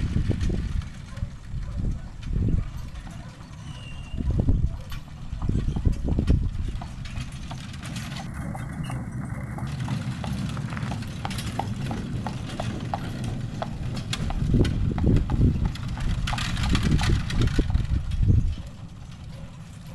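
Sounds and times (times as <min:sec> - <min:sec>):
horse hooves clip-clopping: 0:00.0 - 0:19.9.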